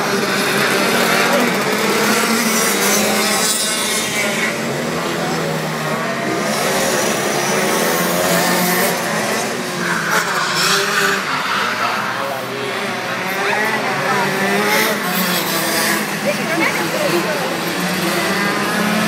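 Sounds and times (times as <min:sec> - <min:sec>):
kart engine revving: 0:00.0 - 0:19.0.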